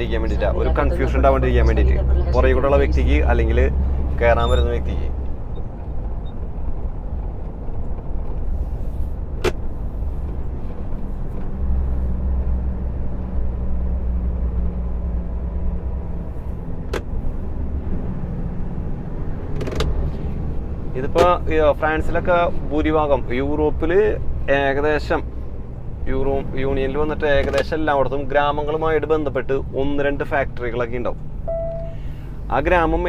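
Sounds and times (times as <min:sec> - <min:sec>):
truck engine and road noise: 0:00.0 - 0:33.0.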